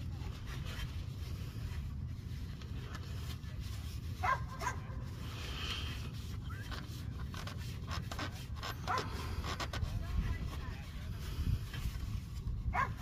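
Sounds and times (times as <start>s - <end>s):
low background rumble: 0.0s - 13.0s
oil filter scraping and rubbing: 0.0s - 13.0s.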